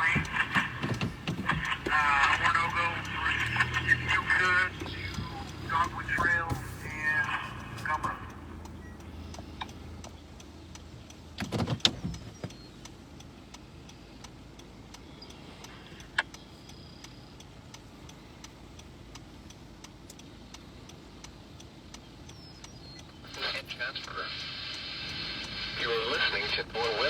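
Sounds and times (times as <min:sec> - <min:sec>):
faint even ticking: 0:00.0 - 0:23.6
road and engine noise in car: 0:00.0 - 0:27.0.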